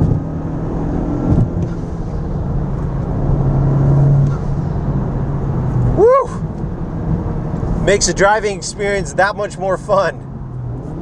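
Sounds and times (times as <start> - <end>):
car engine pulling: 0.0 - 11.0
road noise: 0.0 - 11.0.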